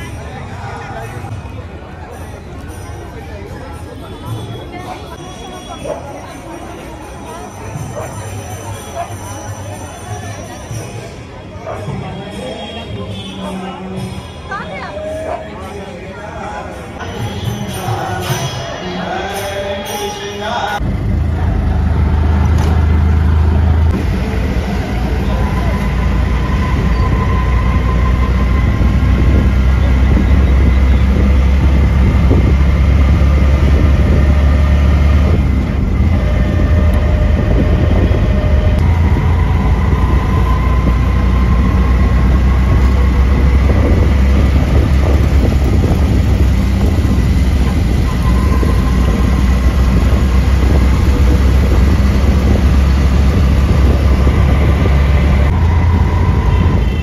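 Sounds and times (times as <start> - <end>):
road and wind noise rumble: 0.0 - 15.8, 20.7 - 57.0.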